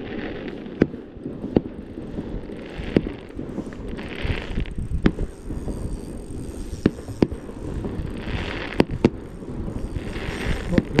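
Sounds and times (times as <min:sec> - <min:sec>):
distant fireworks bursting: 0:00.0 - 0:05.3, 0:06.8 - 0:11.0
fireworks crackling: 0:00.0 - 0:11.0.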